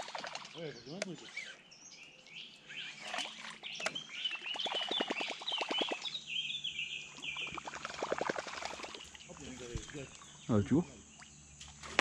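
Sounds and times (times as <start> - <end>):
small birds chirping: 0.2 - 11.8.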